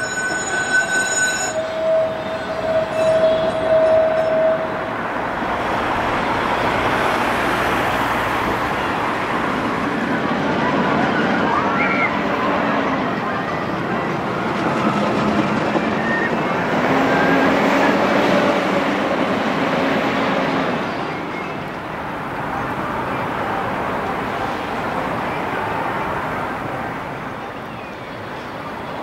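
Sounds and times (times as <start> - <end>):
faint tram whine: 0.0 - 29.0
tram wheels rumbling on rail: 0.0 - 29.0.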